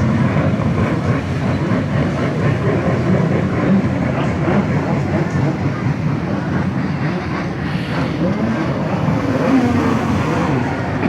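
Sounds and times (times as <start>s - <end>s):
jet ski engine running: 0.0s - 11.0s.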